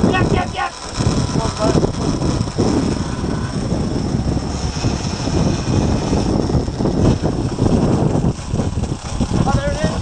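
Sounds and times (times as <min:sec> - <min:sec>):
gusty wind: 0:00.0 - 0:10.0
outboard engine drone: 0:00.0 - 0:10.0.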